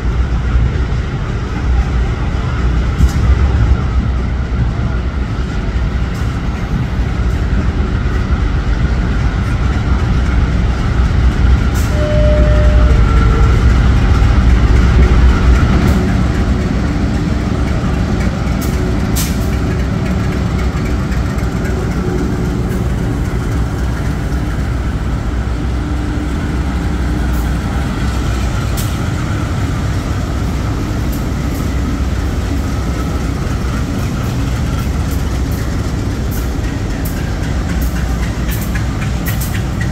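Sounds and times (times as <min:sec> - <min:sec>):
locomotive engines rumbling: 0:00.0 - 0:39.9.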